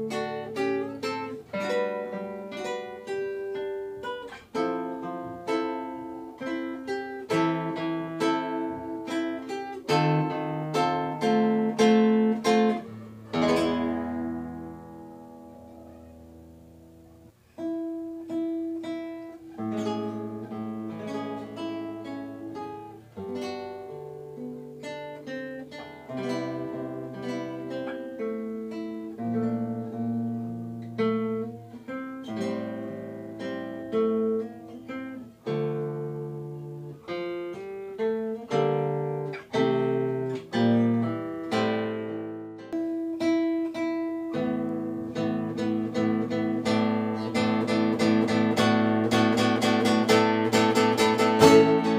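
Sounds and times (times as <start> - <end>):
acoustic guitar plucking: 0.0 - 51.9.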